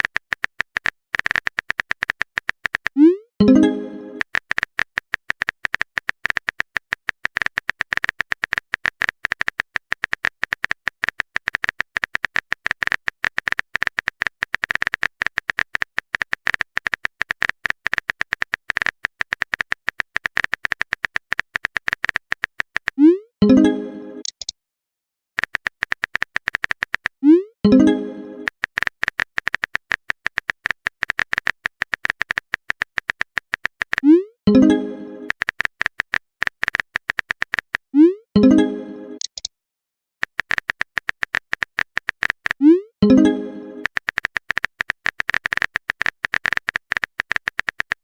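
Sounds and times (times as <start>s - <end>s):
phone keyboard typing clicks: 0.0s - 23.6s, 24.2s - 24.5s, 25.4s - 39.5s, 40.2s - 48.0s.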